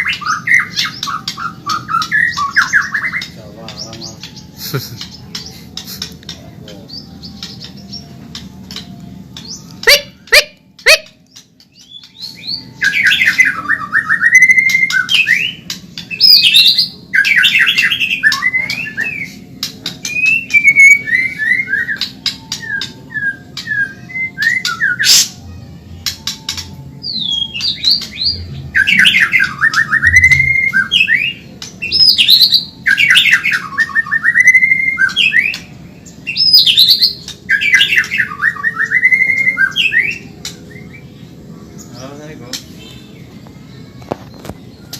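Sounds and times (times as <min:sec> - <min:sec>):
bird singing rapid trills: 0:00.0 - 0:44.9.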